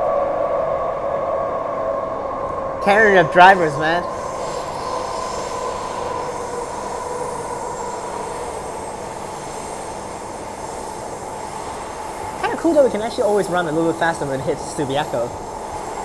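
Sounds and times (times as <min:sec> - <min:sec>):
train rail running noise: 0:02.1 - 0:16.0
train motor whine: 0:02.8 - 0:16.0.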